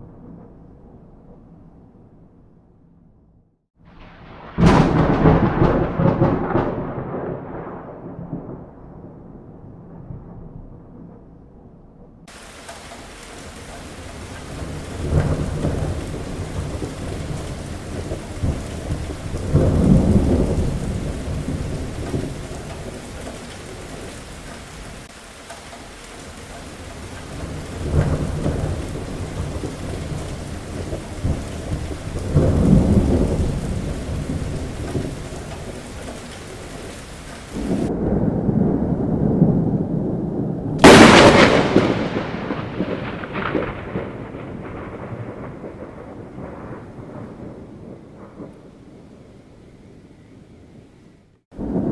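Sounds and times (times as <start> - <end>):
thunder rumbling: 0.0 - 51.9
heavy rain: 3.8 - 8.8, 12.3 - 51.9
sharp thunderclap: 3.9 - 10.9, 12.3 - 48.7, 51.5 - 51.9.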